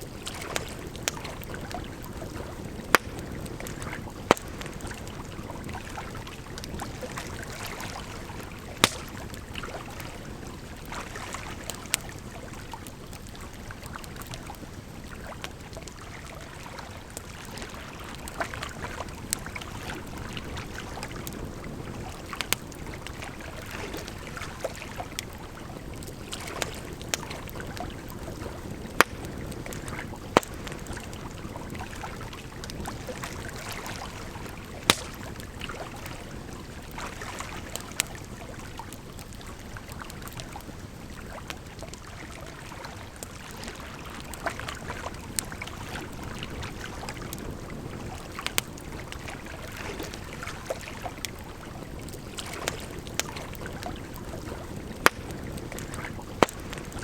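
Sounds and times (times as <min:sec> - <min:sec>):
campfire crackling: 0:00.0 - 0:57.0
flowing water: 0:00.0 - 0:57.0.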